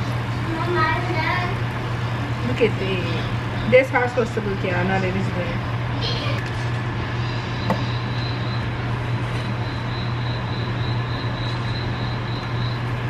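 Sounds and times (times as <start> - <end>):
high whine: 0.0 - 13.0
mechanical hum: 0.0 - 13.0.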